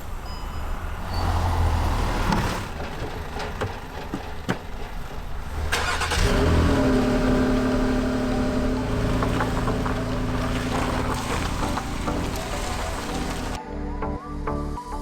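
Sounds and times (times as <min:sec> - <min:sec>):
car engine rumbling: 0:00.0 - 0:13.6.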